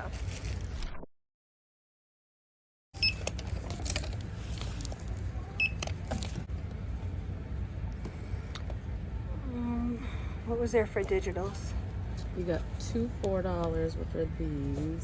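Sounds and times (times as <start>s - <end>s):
store background noise: 3.0s - 15.0s.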